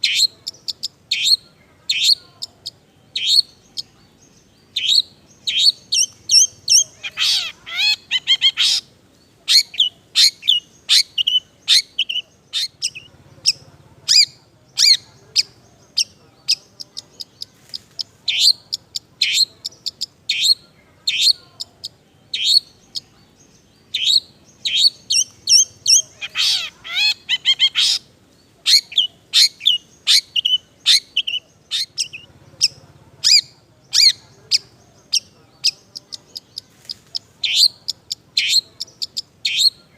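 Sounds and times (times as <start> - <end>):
shrike singing chirps and trills: 0.0 - 39.9.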